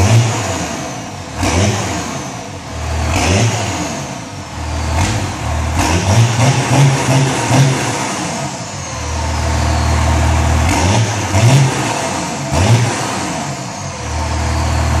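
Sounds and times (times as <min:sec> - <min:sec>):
diesel engine running and revving: 0:00.0 - 0:15.0.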